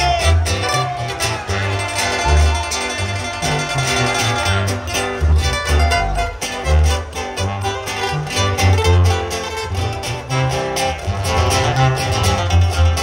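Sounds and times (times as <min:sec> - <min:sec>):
plucked guitar and strings: 0:00.0 - 0:13.0
repeated low bass notes: 0:00.0 - 0:13.0.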